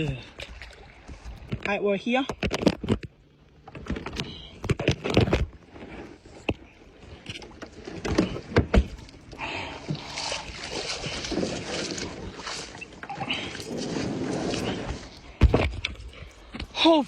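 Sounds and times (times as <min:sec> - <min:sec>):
rough rustling and sloshing: 0:02.4 - 0:16.8.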